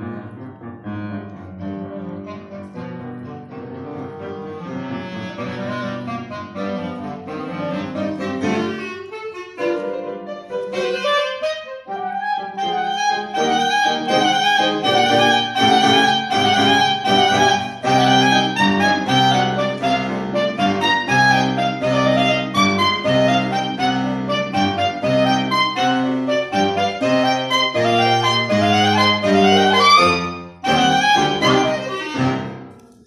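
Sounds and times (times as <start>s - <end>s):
clarinet: 0.0s - 33.0s
grand piano: 0.0s - 33.0s.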